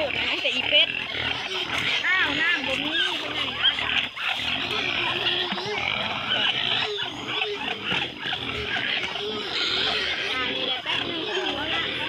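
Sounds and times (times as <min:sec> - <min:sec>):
chickens and ducks calling: 0:00.0 - 0:12.0.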